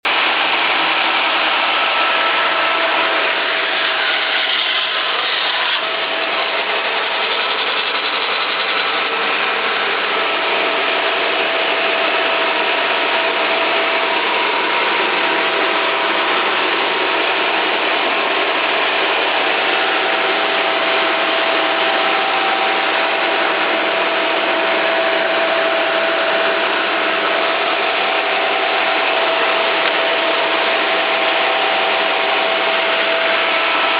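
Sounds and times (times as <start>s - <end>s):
band saw running: 0.0s - 33.9s
faint steady whine: 0.1s - 33.9s.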